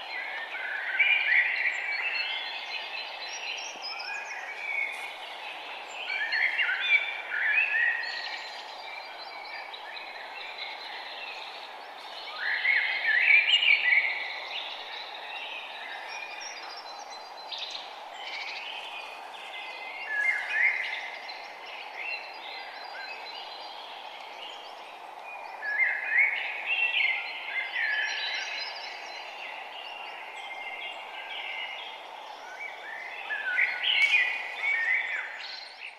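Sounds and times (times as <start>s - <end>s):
birds chirping: 0.0s - 35.9s
steady background hiss: 0.0s - 35.9s.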